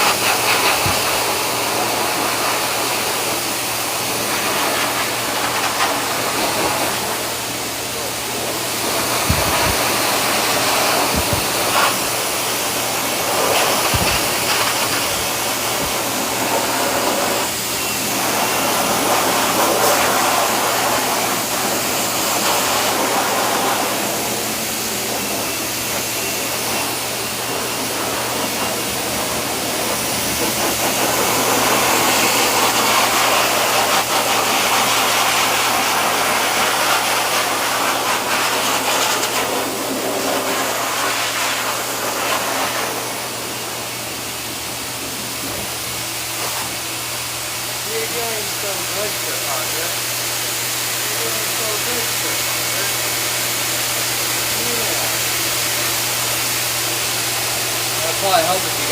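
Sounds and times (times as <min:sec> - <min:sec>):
dryer blowing air: 0:00.0 - 0:58.9.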